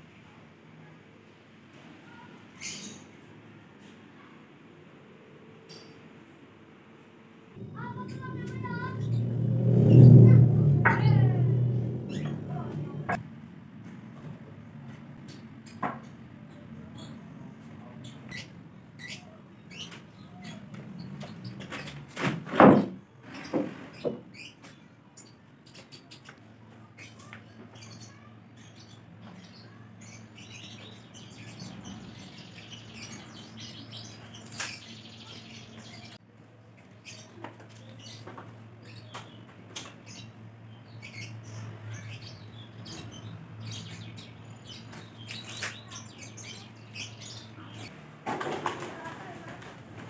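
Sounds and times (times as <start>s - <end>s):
birds chirping: 2.1s - 4.3s, 7.6s - 13.2s, 14.1s - 22.1s, 23.1s - 50.0s.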